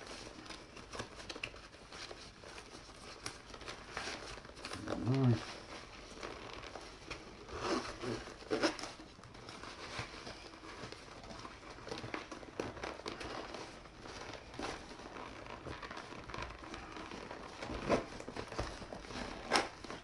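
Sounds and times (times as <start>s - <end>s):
fabric bag rustling: 0.0s - 20.0s.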